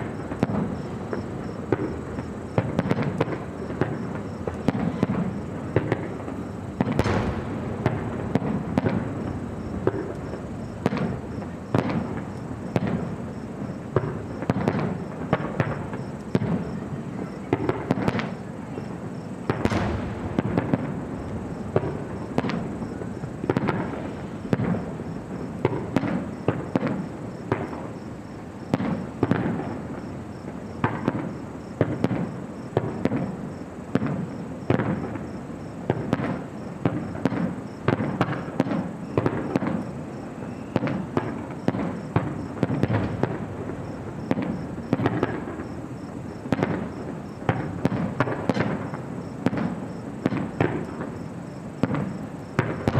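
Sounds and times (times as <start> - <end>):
continuous low rumble: 0.0 - 52.9
fireworks bangs: 0.0 - 52.9.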